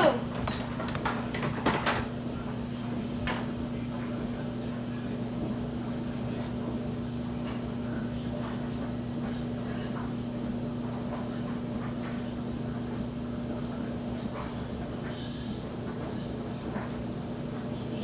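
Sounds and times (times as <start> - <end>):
appliance humming and whirring: 0.0 - 18.0.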